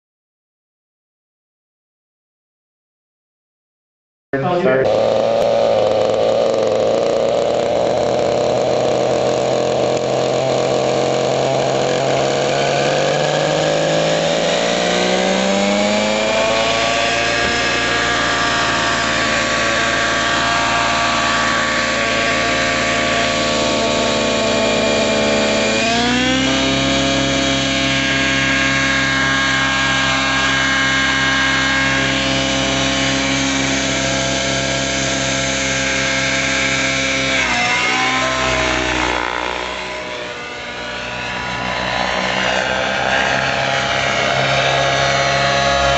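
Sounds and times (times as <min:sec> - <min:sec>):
model helicopter engine and rotor: 0:04.4 - 0:45.9.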